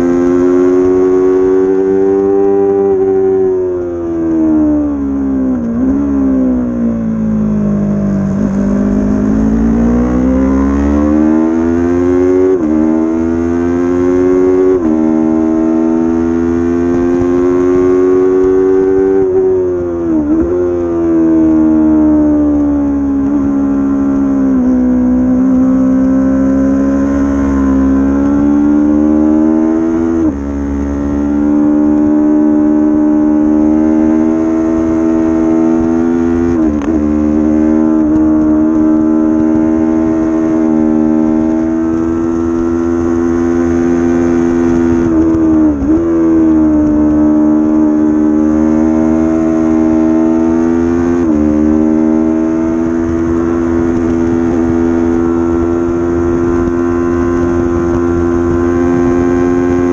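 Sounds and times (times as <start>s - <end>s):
low wind rush: 0.0s - 59.9s
motorcycle engine at high revs: 0.0s - 59.9s.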